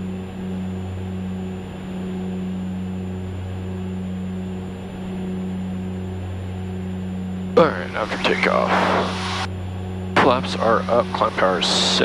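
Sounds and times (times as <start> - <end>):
faint high whine: 0.0 - 12.0
turboprop engines droning: 0.0 - 12.0.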